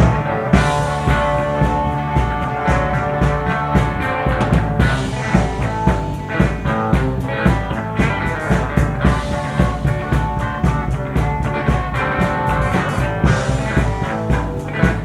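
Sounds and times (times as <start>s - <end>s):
bass guitar: 0.0s - 15.0s
drums keeping a beat: 0.0s - 15.0s
electric guitar: 0.0s - 15.0s.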